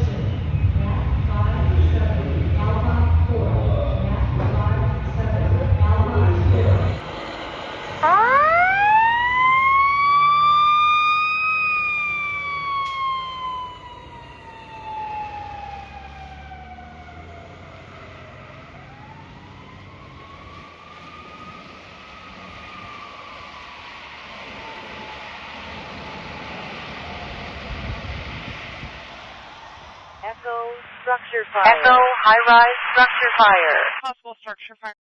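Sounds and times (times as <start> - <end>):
fire engine siren wailing: 0.0 - 30.6.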